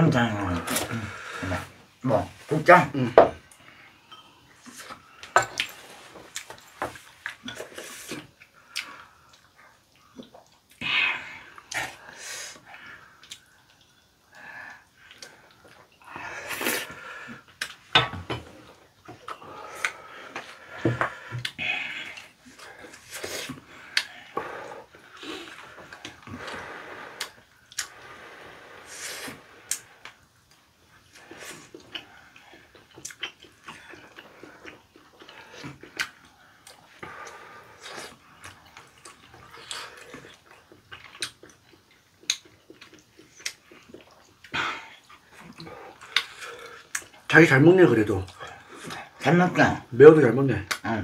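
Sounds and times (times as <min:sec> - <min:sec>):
people chewing and slurping: 0:00.2 - 0:49.4.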